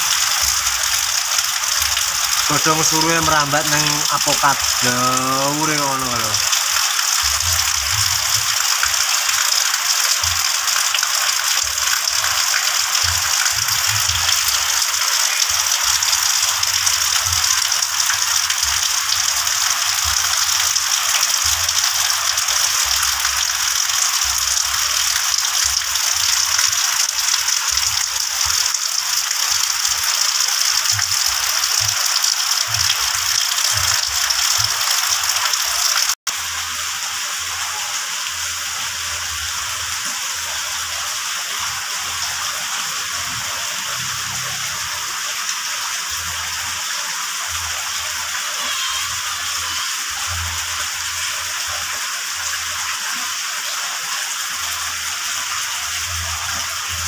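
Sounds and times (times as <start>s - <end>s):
heavy rain on leaves and roof: 0.0s - 57.0s.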